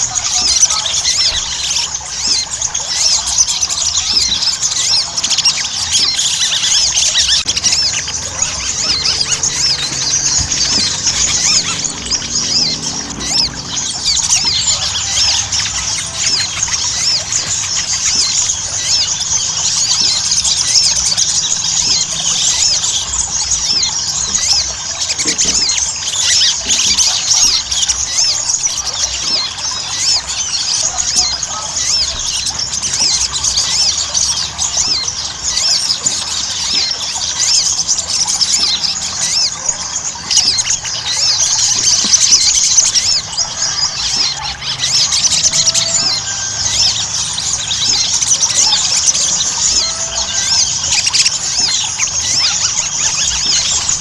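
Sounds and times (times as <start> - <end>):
bird singing squeaky chirps: 0.0 - 54.0.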